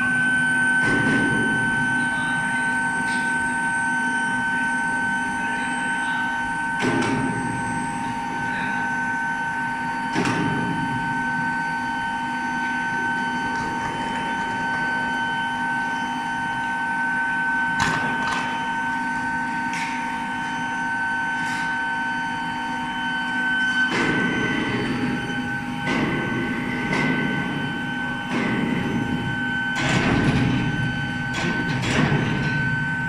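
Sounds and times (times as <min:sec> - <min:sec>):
furnace high-pitched whine: 0:00.0 - 0:33.0.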